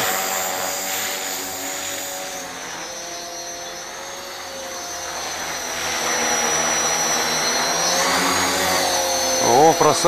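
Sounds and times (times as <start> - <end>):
rc helicopter motor and rotors whining: 0.0 - 10.0.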